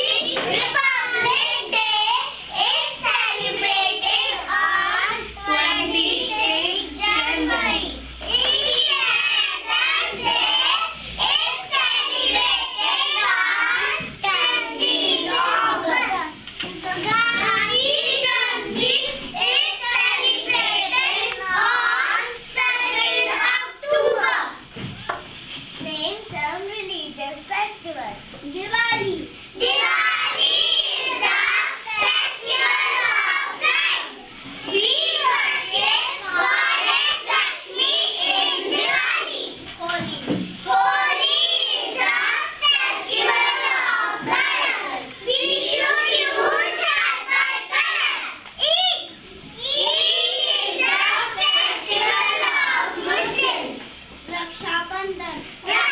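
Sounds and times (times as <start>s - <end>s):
young children singing together: 0.0s - 55.9s.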